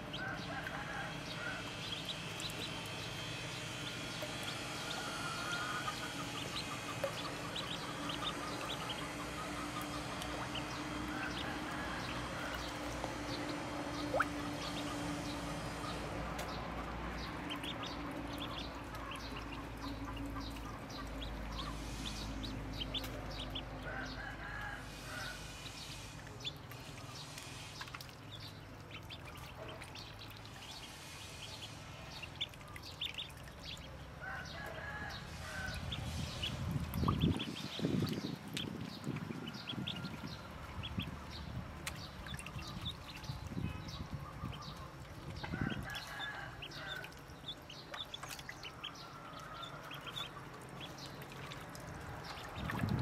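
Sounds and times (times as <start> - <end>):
ducklings peeping: 0.0 - 53.0.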